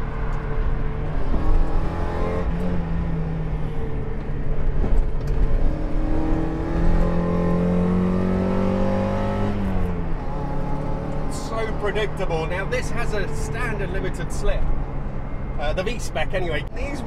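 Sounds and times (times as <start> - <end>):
car engine accelerating: 0.0 - 15.5.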